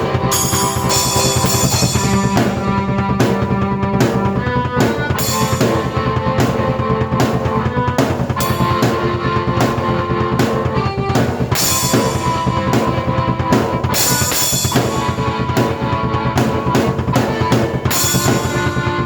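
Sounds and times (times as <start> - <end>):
held keyboard notes: 0.0 - 19.0
rock drum beat: 0.0 - 19.0.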